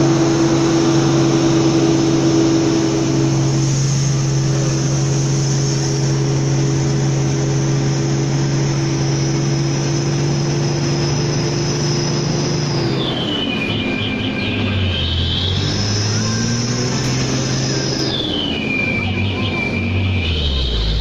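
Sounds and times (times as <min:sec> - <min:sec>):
high steady whine: 0:00.0 - 0:21.0
truck diesel engine running: 0:00.0 - 0:21.0.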